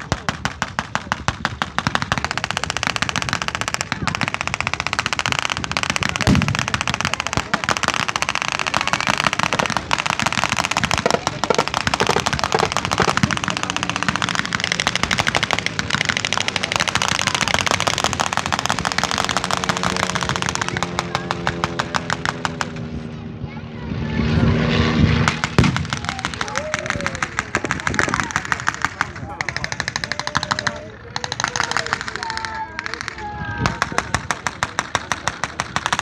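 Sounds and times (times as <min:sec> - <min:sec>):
rapid machine-gun fire: 0:00.0 - 0:23.0, 0:25.2 - 0:36.0
propeller aircraft engine drone: 0:00.0 - 0:36.0.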